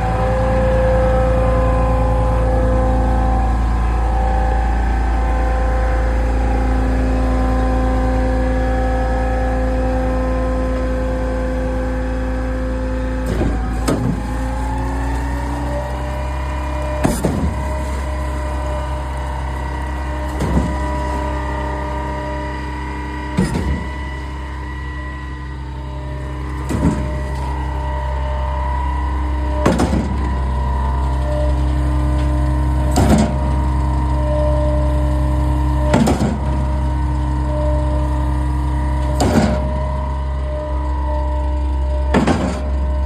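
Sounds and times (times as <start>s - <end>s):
concrete pump engine running: 0.0s - 43.0s.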